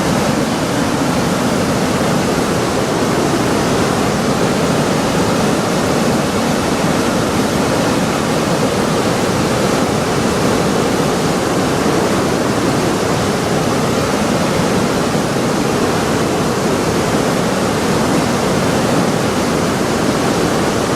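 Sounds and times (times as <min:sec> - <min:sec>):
river water rushing: 0:00.0 - 0:20.9.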